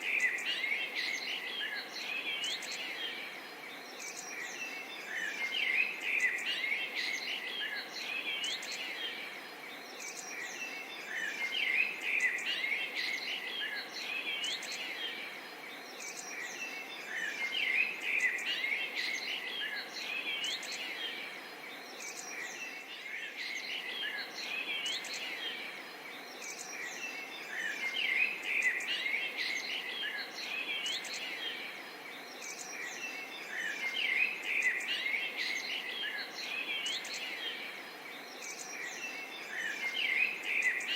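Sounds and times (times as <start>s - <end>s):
background hiss: 0.0s - 40.9s
birds chirping and calling: 0.0s - 40.9s.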